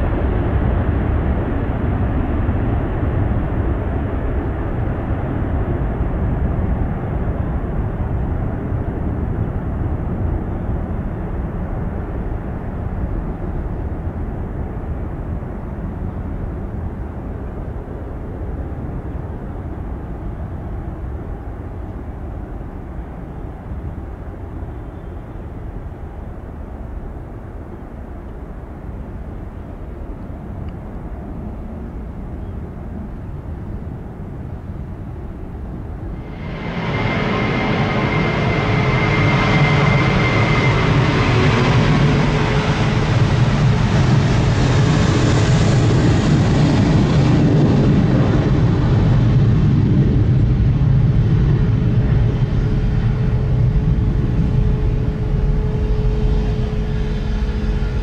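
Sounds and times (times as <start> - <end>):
jet engines deep rumble: 0.0 - 58.0.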